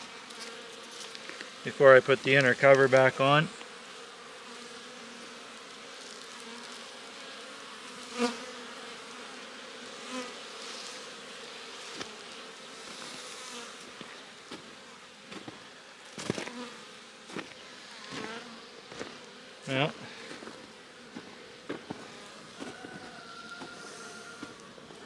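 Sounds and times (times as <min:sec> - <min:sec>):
bee flying close past: 0:00.0 - 0:25.0
bees buzzing: 0:00.0 - 0:25.0.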